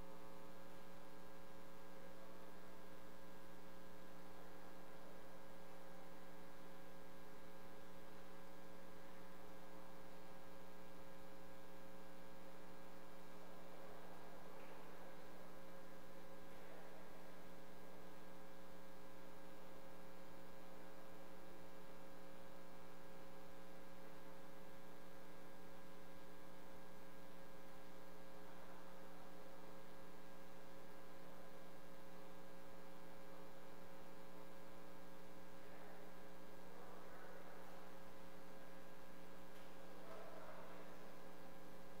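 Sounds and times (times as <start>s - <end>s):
steady electrical hum: 0.0s - 42.0s.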